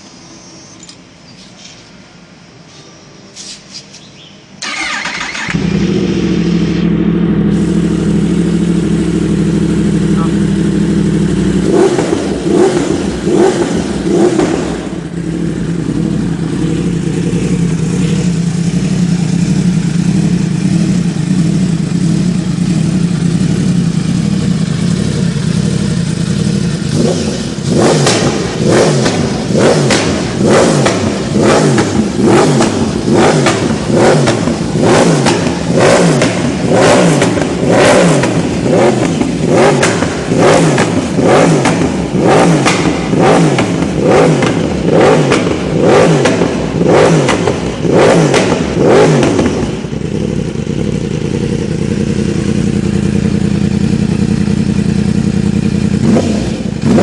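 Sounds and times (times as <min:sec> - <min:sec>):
motorcycle engine idling and revving: 0:04.0 - 0:57.0.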